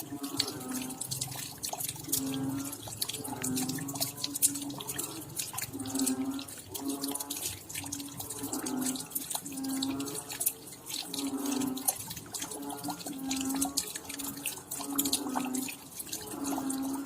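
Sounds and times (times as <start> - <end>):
raindrops dripping: 0.0 - 17.0.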